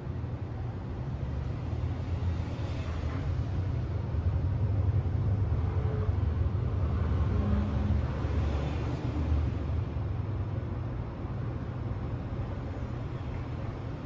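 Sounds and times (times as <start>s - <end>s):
tram equipment hum and rumble: 0.0s - 14.0s.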